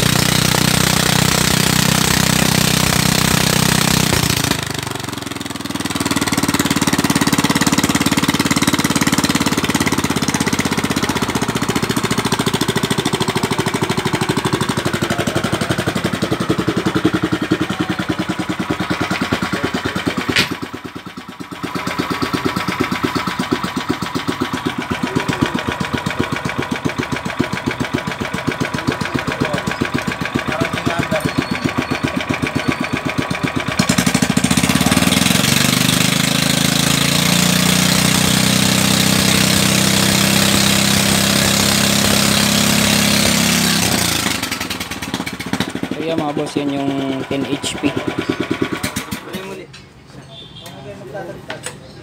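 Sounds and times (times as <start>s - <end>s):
petrol engine running: 0.0s - 49.6s.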